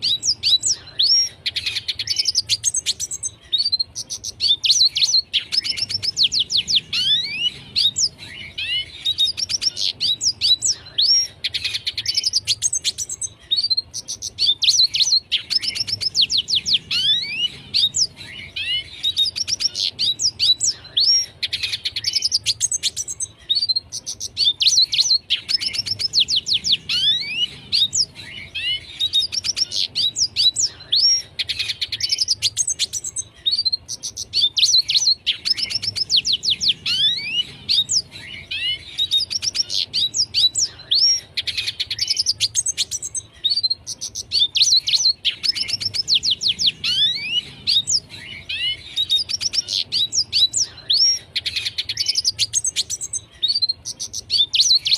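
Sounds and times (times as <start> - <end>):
bird twittering song: 0.0 - 54.9.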